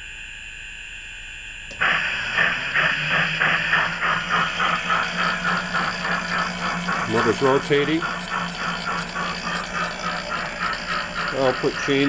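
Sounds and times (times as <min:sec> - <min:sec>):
electric motor hum: 0:01.5 - 0:12.0
steam locomotive chuffs from speaker: 0:01.7 - 0:12.0.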